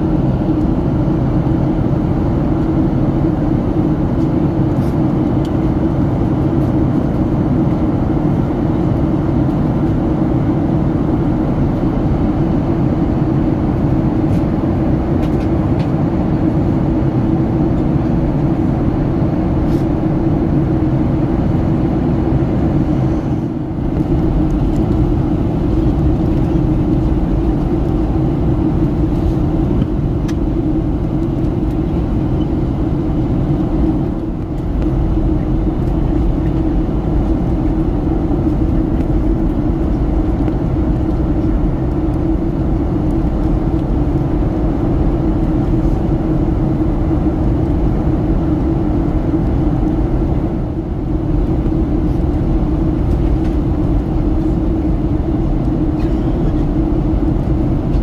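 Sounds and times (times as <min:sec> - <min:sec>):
airplane cabin airflow rush: 0:00.0 - 0:58.0
jet engines droning: 0:00.0 - 0:58.0.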